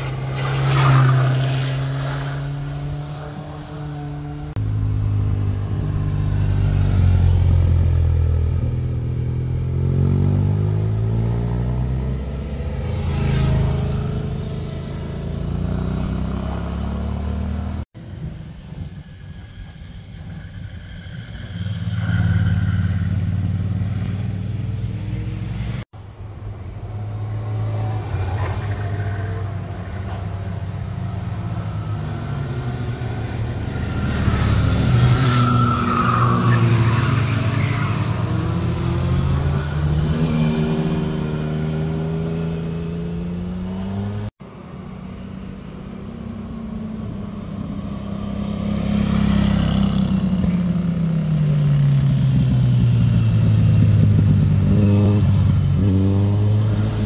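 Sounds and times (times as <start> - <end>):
motorcycles passing: 0.0 - 17.8, 19.9 - 57.0.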